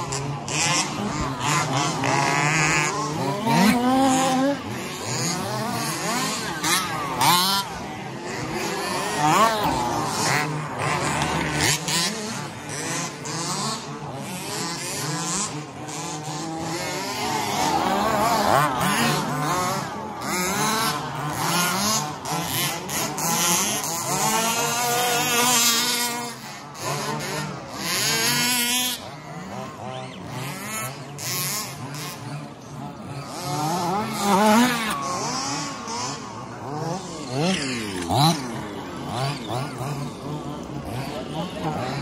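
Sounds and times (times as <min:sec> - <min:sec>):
rc car electric motors whining: 0:00.0 - 0:42.0.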